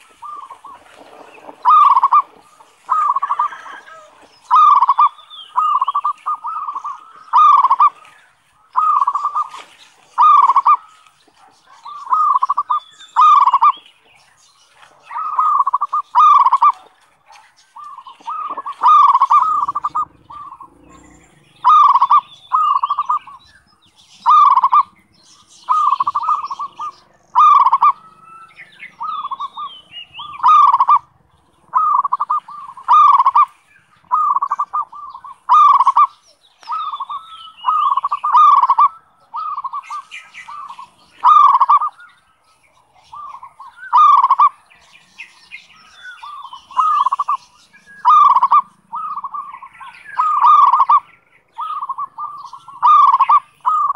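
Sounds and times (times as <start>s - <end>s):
dove cooing: 0.0s - 13.8s, 14.7s - 42.2s, 42.9s - 53.9s.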